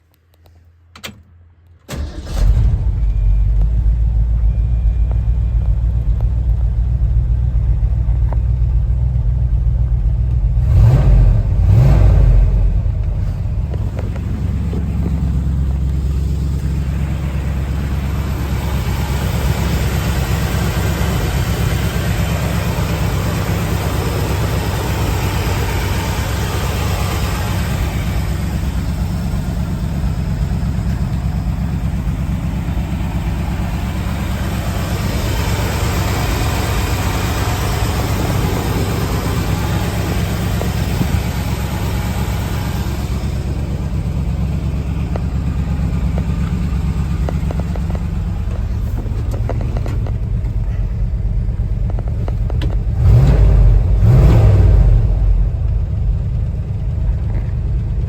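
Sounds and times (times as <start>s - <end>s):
pickup truck engine idling: 1.9s - 58.0s.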